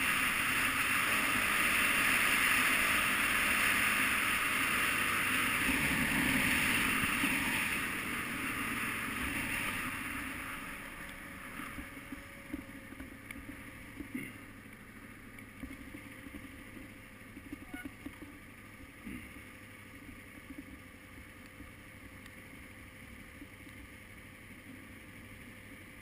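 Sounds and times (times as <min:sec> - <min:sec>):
motorcycle running: 0:00.0 - 0:26.0.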